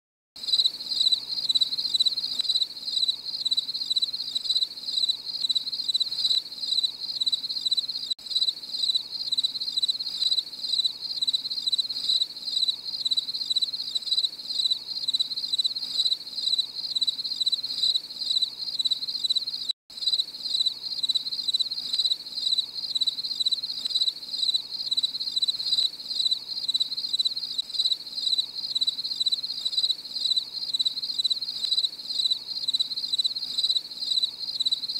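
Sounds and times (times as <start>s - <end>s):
crickets chirping: 0.4s - 34.9s.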